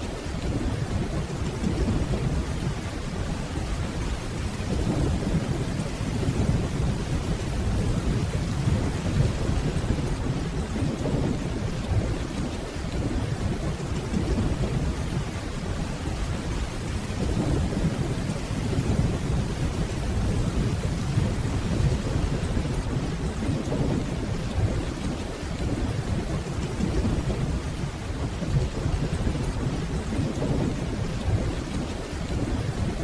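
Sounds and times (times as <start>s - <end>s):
distant thunder rumble: 0.0s - 33.0s
steady rainfall: 0.0s - 33.0s.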